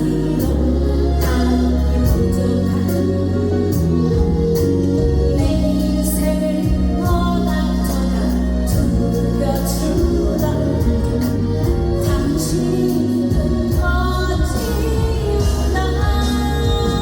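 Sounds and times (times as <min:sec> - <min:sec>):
backing track with heavy bass: 0:00.0 - 0:17.0
woman singing: 0:00.0 - 0:17.0.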